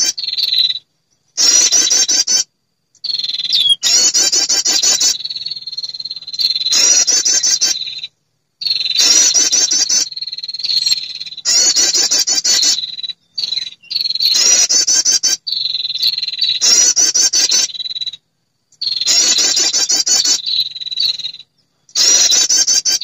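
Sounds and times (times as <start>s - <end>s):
bird chattering trills: 0.0s - 0.8s, 1.4s - 18.2s, 18.8s - 23.0s.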